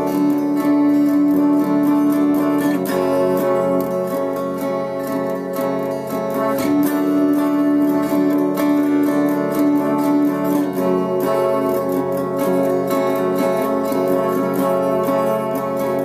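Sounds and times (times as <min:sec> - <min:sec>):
guitar playing: 0:00.0 - 0:16.0.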